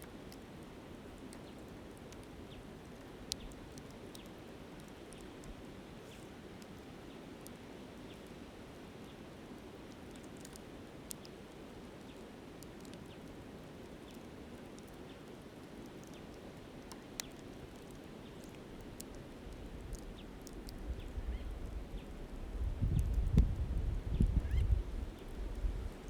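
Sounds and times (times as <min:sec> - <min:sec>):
campfire crackling and popping: 0:00.0 - 0:05.6, 0:09.5 - 0:26.0.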